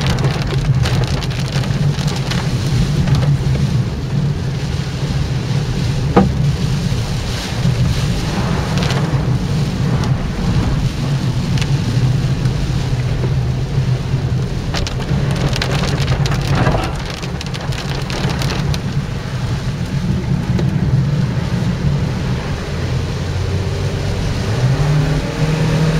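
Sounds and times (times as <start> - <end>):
low rumble: 0.0 - 24.6
heavy rain: 0.0 - 25.9
raindrops pattering and crackling: 0.0 - 25.9.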